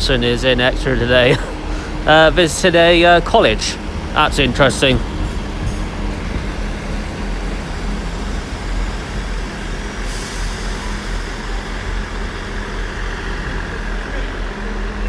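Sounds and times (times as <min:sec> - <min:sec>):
air hissing: 0:00.0 - 0:15.0
diesel engines idling: 0:00.0 - 0:15.0.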